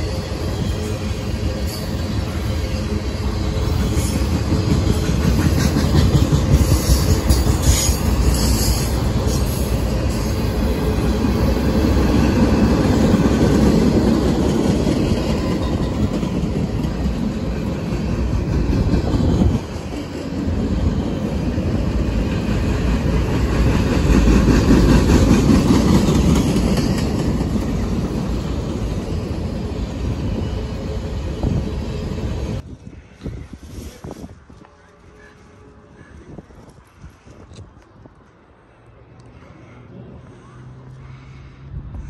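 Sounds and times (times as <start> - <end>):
train wheels rumbling on rails: 0.0 - 38.6.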